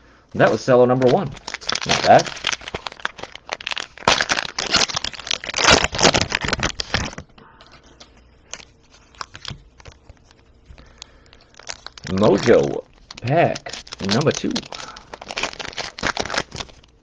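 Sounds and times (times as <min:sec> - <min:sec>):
cards being handled: 0:00.4 - 0:17.0
cellophane wrapper crinkling and tearing: 0:00.4 - 0:17.0.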